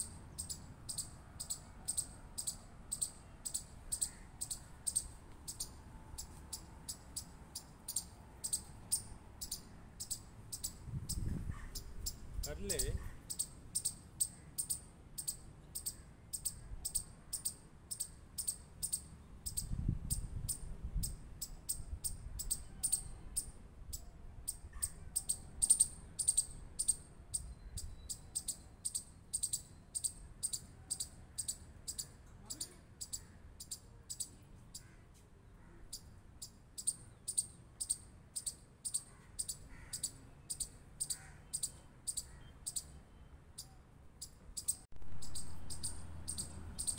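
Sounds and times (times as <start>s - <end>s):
chipmunk chip calls: 0.0s - 35.0s, 35.6s - 46.9s.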